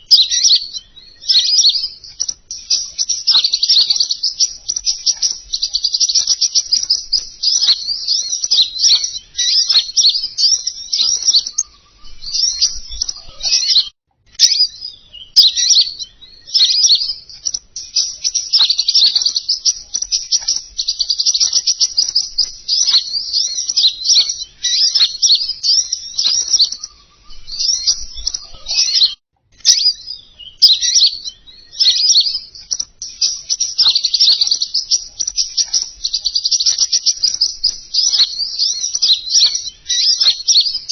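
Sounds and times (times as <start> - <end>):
songbird twittering recording: 0.0 - 40.9.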